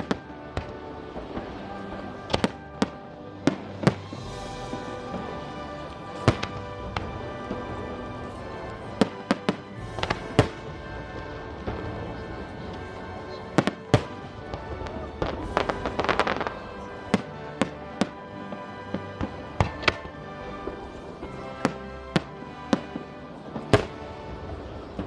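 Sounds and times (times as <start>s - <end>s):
background music: 0.0s - 25.0s
fireworks bangs: 0.0s - 25.0s
fireworks crackling: 0.0s - 25.0s.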